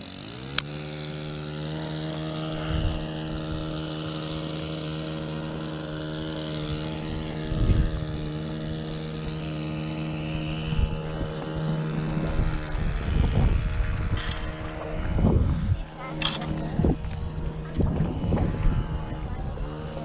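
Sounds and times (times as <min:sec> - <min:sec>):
motorboat engine running: 0:00.0 - 0:20.0
wind buffeting microphone: 0:01.0 - 0:20.0.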